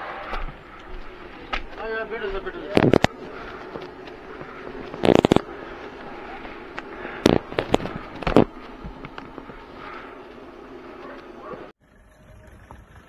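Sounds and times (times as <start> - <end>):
low room murmur: 0.3 - 11.7.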